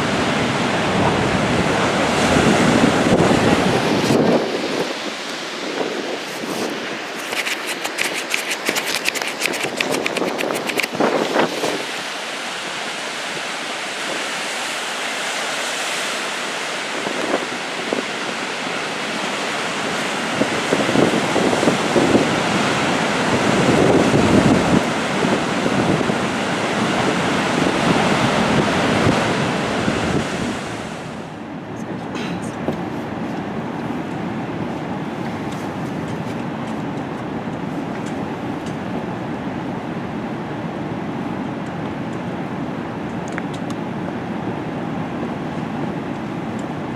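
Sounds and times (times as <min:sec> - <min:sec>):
wind buffeting microphone: 0:00.0 - 0:12.8, 0:16.8 - 0:46.9
waves breaking: 0:00.0 - 0:46.9.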